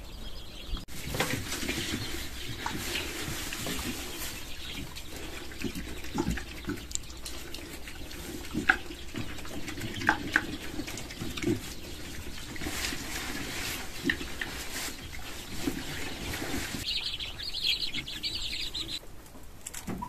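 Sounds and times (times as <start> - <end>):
pigs chewing grass: 0.8 - 19.6.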